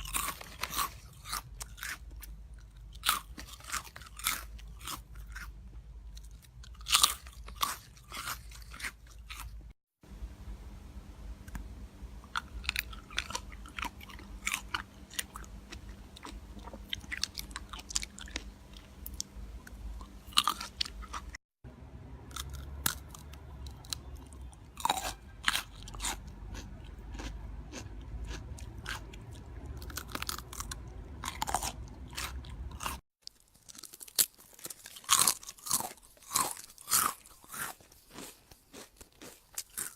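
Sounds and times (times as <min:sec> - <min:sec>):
chewing crunchy food: 0:00.0 - 0:09.8, 0:12.2 - 0:21.4, 0:22.3 - 0:39.9.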